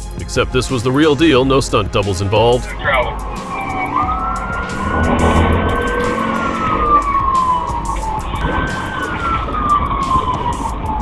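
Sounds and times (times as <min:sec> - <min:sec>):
road noise: 0:00.0 - 0:11.0
police siren wailing: 0:00.4 - 0:11.0.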